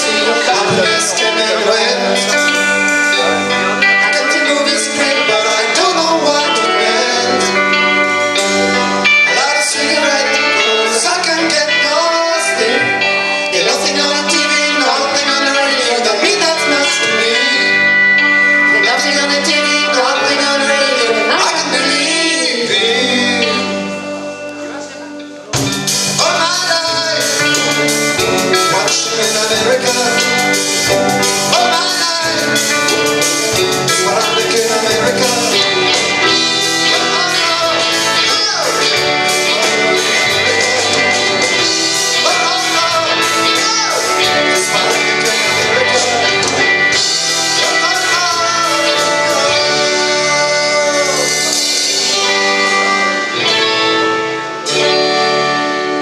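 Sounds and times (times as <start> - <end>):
drum kit beat: 0.0 - 23.9, 25.6 - 56.0
electric guitars: 0.0 - 56.0
person singing: 0.0 - 56.0.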